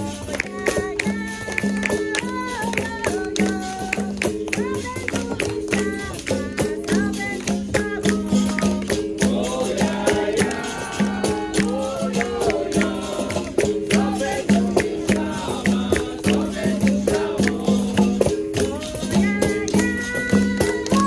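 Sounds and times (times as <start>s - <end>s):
berimbau: 0.0s - 21.0s
group of voices singing: 0.0s - 21.0s
pandeiro: 0.0s - 21.0s.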